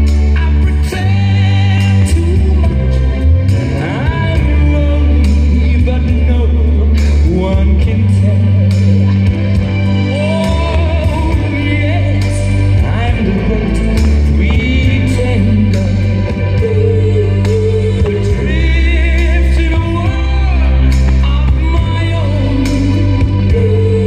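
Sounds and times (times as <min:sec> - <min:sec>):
person singing: 0:00.0 - 0:24.0
sustained bass notes: 0:00.0 - 0:24.0.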